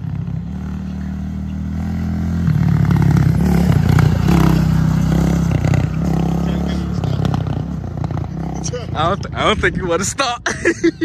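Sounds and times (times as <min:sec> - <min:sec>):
quad engine revving: 0:00.0 - 0:09.7.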